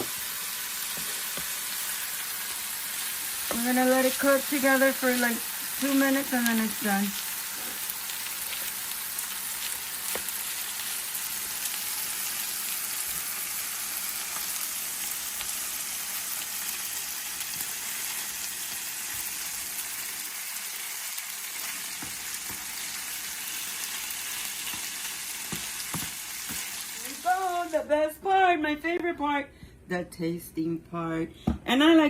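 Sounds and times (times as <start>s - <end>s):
rice sizzling on a griddle: 0.0s - 27.6s.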